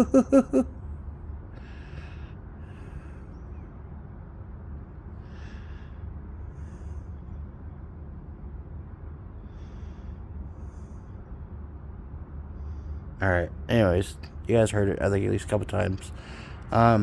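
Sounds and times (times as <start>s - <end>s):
low outdoor rumble: 0.0s - 17.0s
soft breaths close to microphone: 1.6s - 13.2s, 14.8s - 17.0s.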